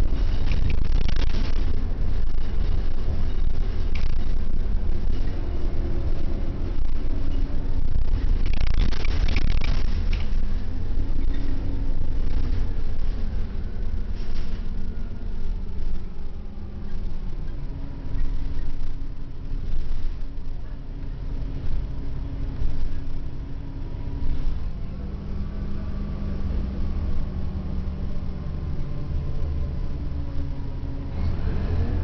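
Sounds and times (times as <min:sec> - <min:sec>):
bus engine and road rumble: 0:00.0 - 0:32.0
drivetrain whine shifting pitch: 0:00.0 - 0:32.0.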